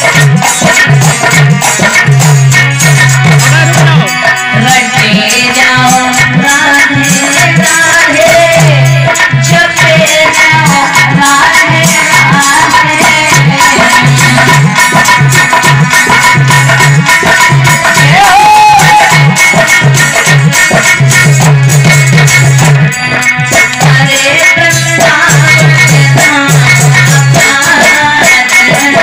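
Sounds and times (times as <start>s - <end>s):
tabla beat: 0.0s - 29.0s.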